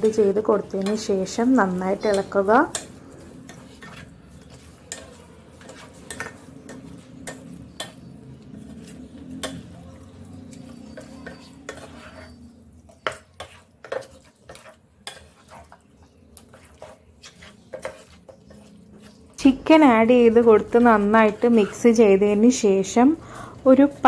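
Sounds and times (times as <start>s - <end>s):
spatula scraping a pan: 0.0s - 24.0s.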